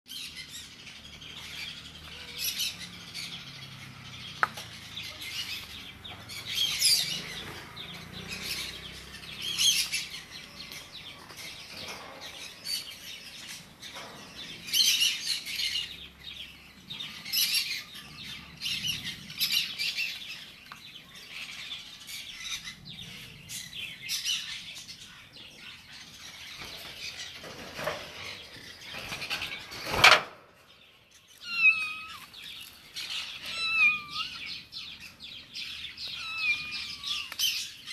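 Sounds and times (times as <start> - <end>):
small birds chirping: 0.1 - 37.9.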